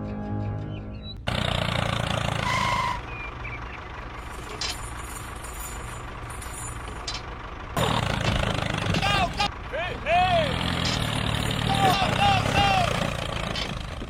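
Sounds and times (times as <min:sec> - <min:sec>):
low engine rumble: 0:01.1 - 0:14.0.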